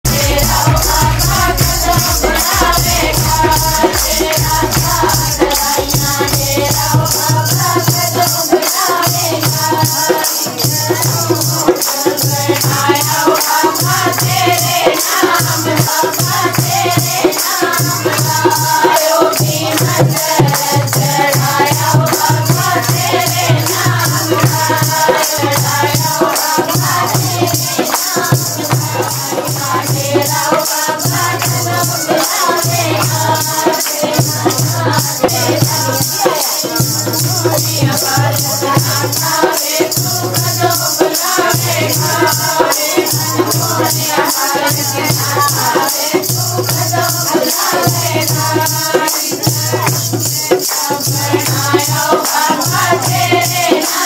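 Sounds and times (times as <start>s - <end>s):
barrel drum: 0.0s - 54.0s
women singing in chorus: 0.0s - 54.0s.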